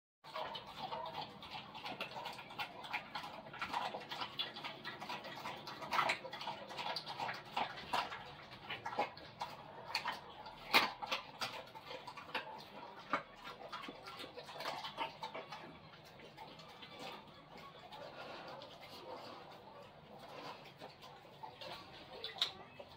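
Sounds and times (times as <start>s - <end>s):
animal feeding clicks and crunches: 0.3s - 22.9s.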